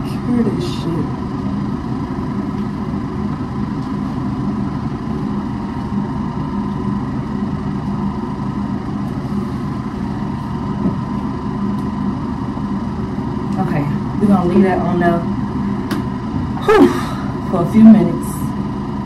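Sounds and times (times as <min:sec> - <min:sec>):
motor drone with low hum: 0:00.0 - 0:19.0.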